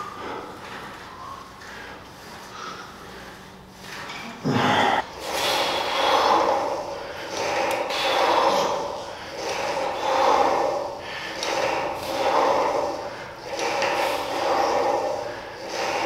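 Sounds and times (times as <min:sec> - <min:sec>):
man breathing hard: 0:00.0 - 0:03.6, 0:04.4 - 0:16.0.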